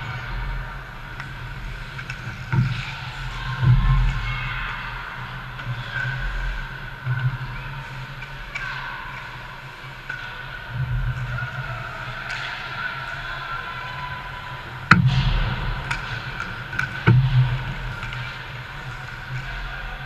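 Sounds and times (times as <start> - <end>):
low rumble of rink: 0.0 - 20.0.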